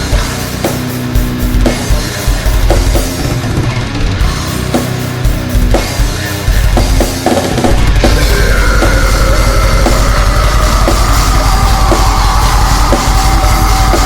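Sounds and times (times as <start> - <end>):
heavy metal music: 0.0 - 14.0.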